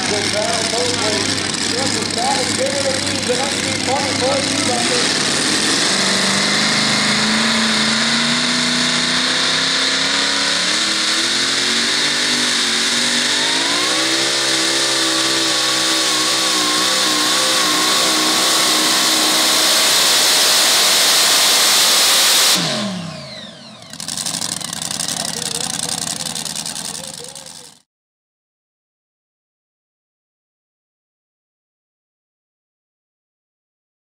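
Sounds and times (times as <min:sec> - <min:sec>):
supercharged truck engine at full throttle: 0:00.0 - 0:27.9.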